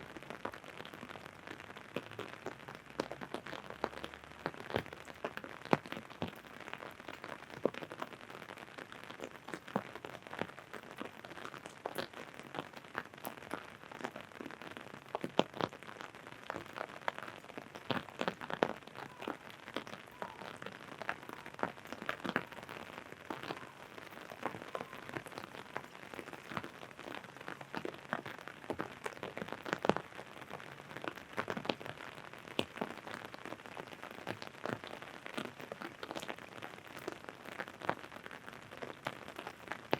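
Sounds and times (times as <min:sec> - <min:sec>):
raindrops tapping on umbrella: 0:00.0 - 0:39.9
hiss of falling rain: 0:00.1 - 0:39.9.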